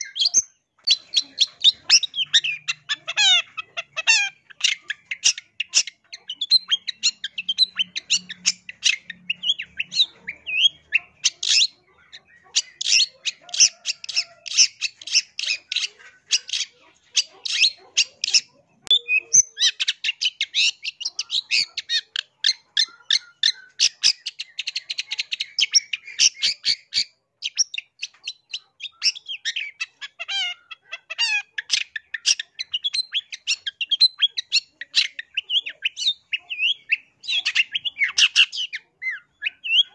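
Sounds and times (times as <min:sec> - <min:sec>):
shrike chattering song: 0:00.0 - 0:39.9.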